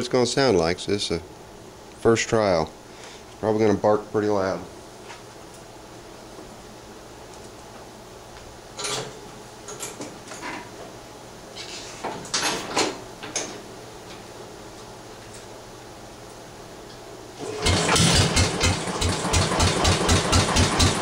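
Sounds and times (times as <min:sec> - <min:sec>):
faint steady hum: 0:00.0 - 0:17.6.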